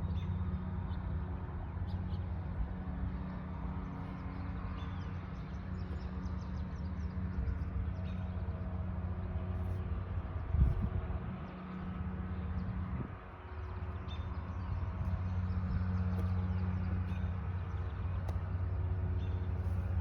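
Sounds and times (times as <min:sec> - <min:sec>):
vehicle engine idling hum: 0:00.0 - 0:20.0.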